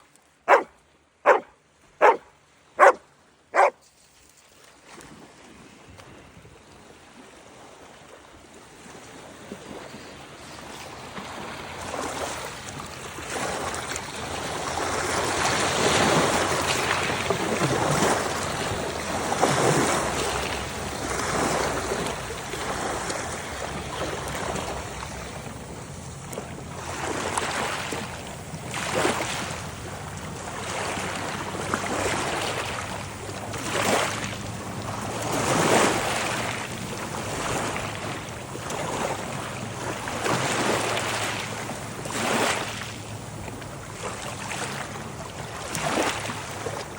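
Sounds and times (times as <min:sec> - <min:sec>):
waves washing on shore: 0:05.0 - 0:46.9.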